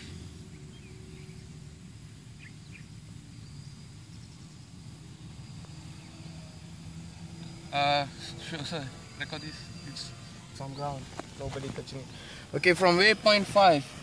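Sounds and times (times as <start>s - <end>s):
faint chirps: 0.0s - 12.7s
faint hum: 0.0s - 14.0s.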